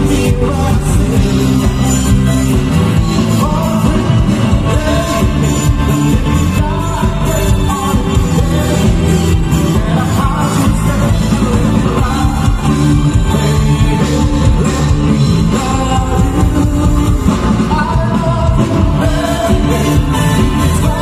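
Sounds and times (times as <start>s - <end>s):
heavy bass: 0.0s - 21.0s
live band playing: 0.0s - 21.0s
man singing: 0.0s - 21.0s.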